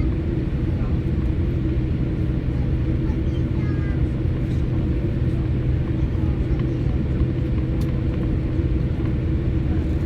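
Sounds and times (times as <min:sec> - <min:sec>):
airliner cabin rumble and hum: 0:00.0 - 0:10.0.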